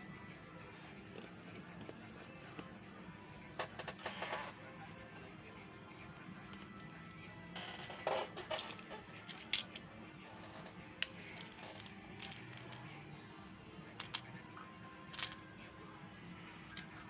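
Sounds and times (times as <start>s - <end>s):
faint music: 0.0s - 17.0s.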